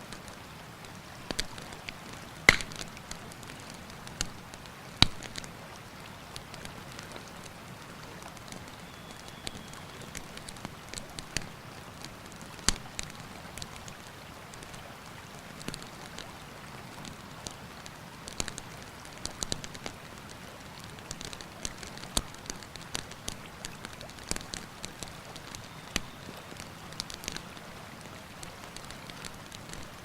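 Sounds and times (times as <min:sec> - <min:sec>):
campfire crackling: 0:00.0 - 0:30.0
river rushing: 0:00.0 - 0:30.0.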